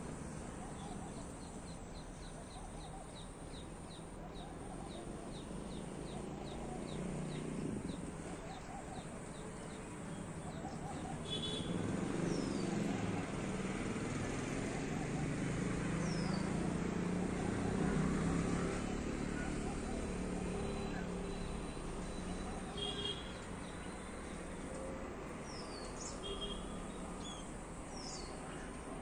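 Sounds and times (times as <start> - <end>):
low traffic hum: 0.0 - 29.0.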